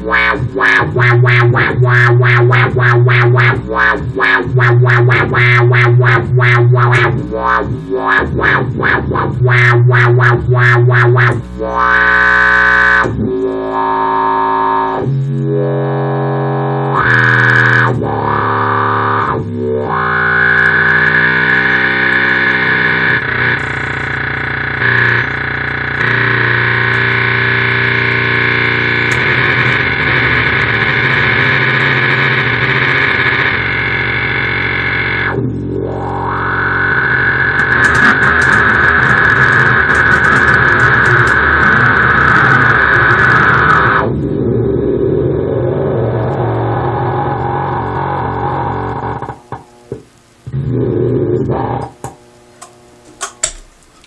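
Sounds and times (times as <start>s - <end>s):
distorted electric bass wobble: 0.0s - 54.0s.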